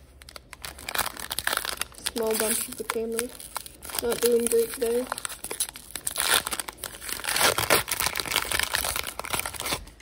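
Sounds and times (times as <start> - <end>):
foil wrapper crinkling: 0.1 - 10.0.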